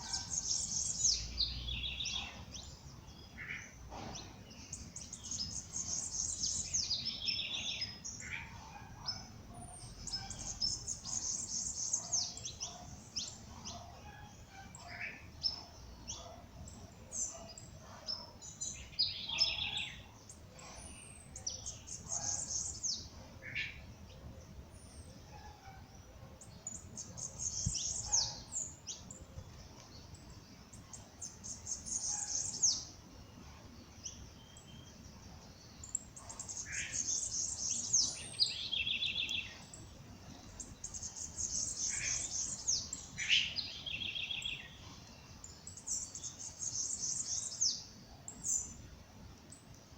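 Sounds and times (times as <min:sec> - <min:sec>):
songbirds trilling: 0:00.0 - 0:49.9.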